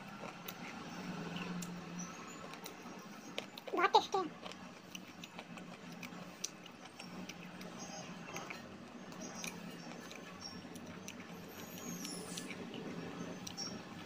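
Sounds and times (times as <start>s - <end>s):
person chewing dry clay: 0.0s - 14.0s.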